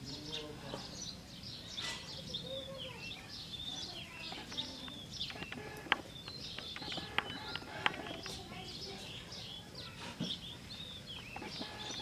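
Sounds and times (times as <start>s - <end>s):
birds chirping and calling: 0.0s - 12.0s
outdoor background noise: 0.0s - 12.0s.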